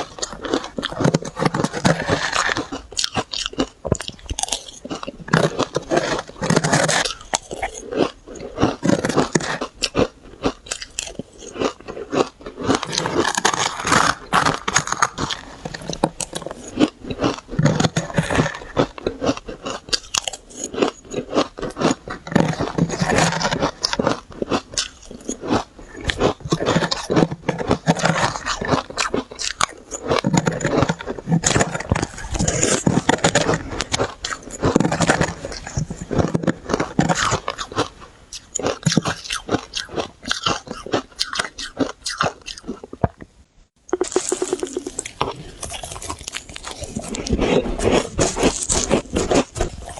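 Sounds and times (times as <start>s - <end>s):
shaved ice being chewed: 0.0s - 43.3s, 43.9s - 49.9s.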